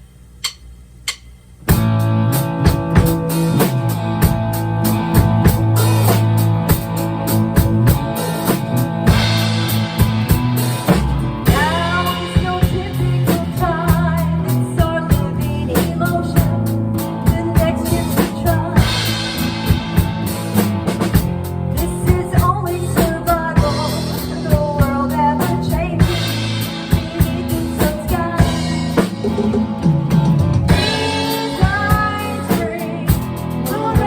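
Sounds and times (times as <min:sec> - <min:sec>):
drum kit beat: 0:00.4 - 0:34.0
sustained bass notes: 0:01.7 - 0:34.0.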